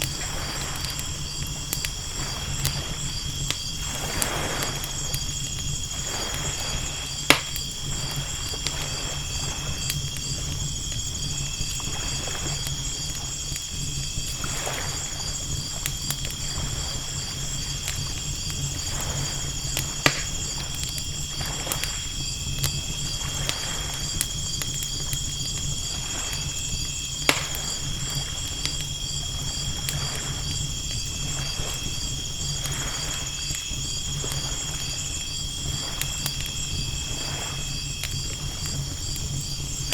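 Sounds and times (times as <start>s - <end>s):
campfire crackling and popping: 0.0s - 39.9s
insects chirping: 0.0s - 39.9s.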